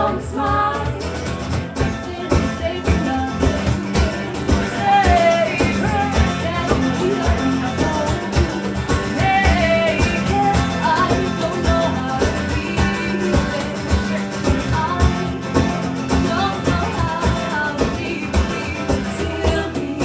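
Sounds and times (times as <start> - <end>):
guitars: 0.0 - 20.0
percussion beat: 0.0 - 20.0.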